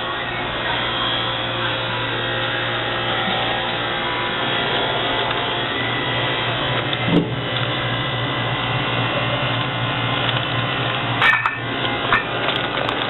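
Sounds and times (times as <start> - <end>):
refrigerated cooler humming: 0.0 - 13.0.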